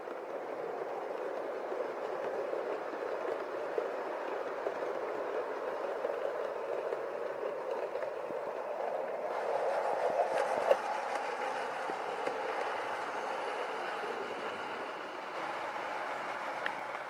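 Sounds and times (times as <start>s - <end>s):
model train motor whirring: 0.0s - 17.0s
wheels clicking over rail joints: 0.0s - 17.0s.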